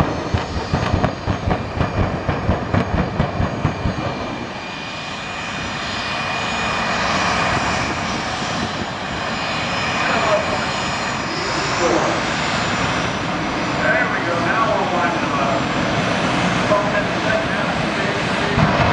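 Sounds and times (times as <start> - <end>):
jet engines roaring: 0.0 - 18.9
jet engines thumping pulses: 0.0 - 18.9.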